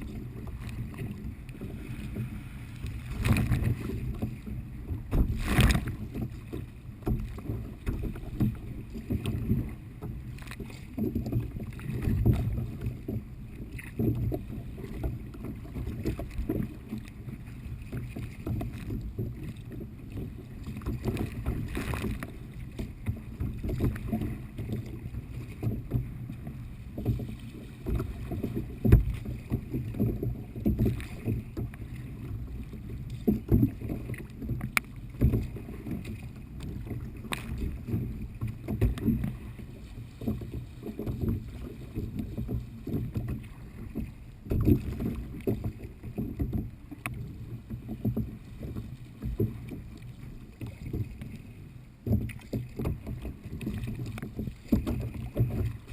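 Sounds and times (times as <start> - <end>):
paddle splashes: 0.0 - 55.9
water sloshing against kayak: 0.0 - 55.9.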